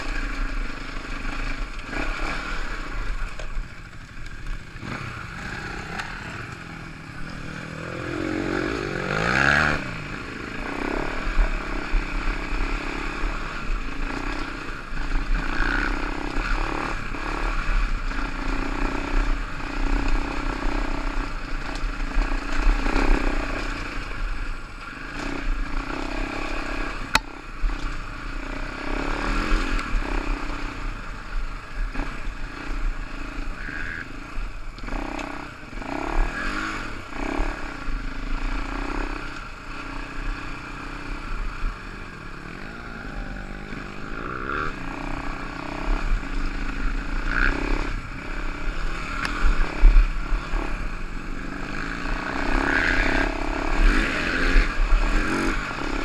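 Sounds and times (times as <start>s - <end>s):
motorcycle engine revving: 0.0s - 56.0s
motorcycle rattling over ground: 0.0s - 56.0s.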